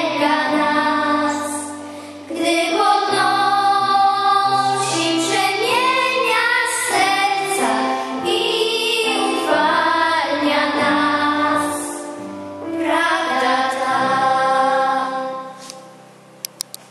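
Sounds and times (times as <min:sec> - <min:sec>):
children singing a hymn: 0:00.0 - 0:15.7.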